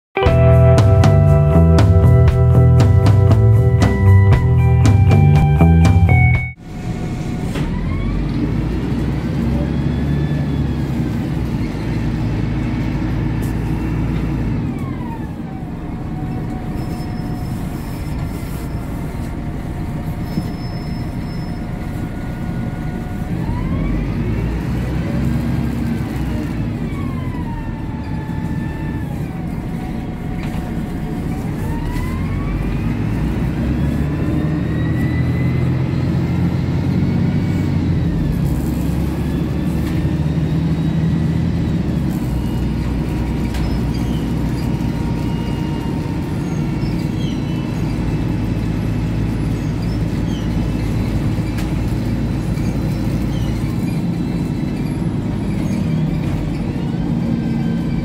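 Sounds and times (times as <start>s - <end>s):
drivetrain whine: 0.1s - 58.0s
bus engine rumble: 0.2s - 58.0s.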